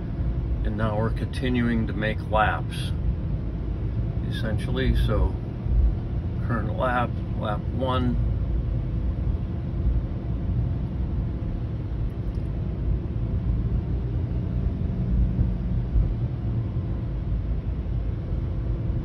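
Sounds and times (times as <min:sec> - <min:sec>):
car engine running inside cabin: 0:00.0 - 0:19.0.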